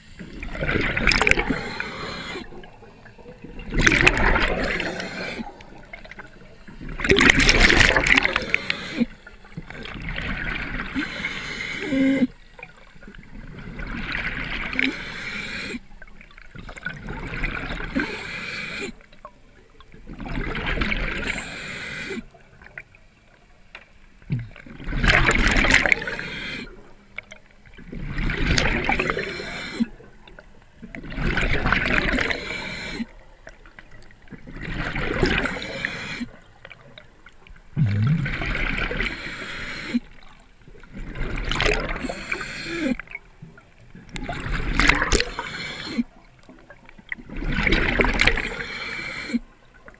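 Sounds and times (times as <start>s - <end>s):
exhaled bubbles gurgling: 0.0s - 22.9s, 24.2s - 49.9s.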